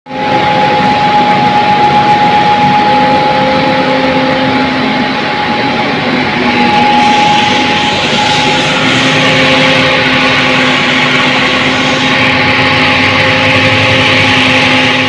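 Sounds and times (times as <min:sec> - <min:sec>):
rice huller running: 0:00.1 - 0:15.0.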